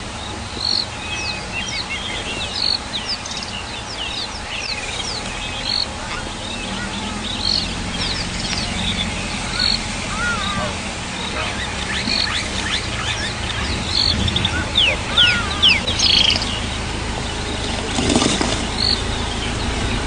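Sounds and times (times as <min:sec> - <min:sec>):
forest birds chirping and whistling: 0:00.0 - 0:20.0
loud bird call: 0:00.0 - 0:20.0
low steady rumble: 0:00.0 - 0:20.0.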